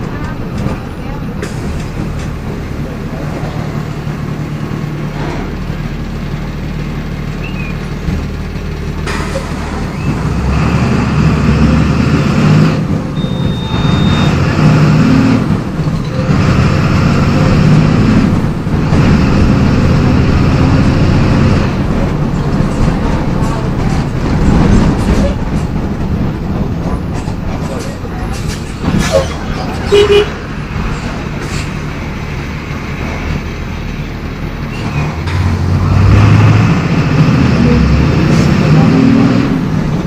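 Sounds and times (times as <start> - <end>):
bus diesel engine running: 0.0 - 40.0.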